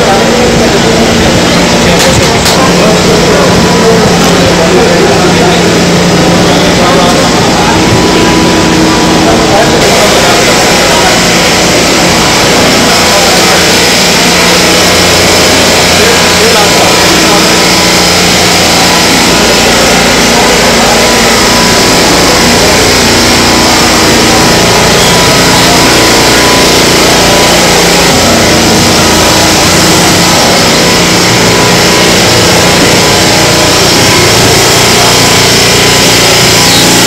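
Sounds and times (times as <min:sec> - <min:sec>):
floor-cleaning machine running: 0:00.0 - 0:37.0.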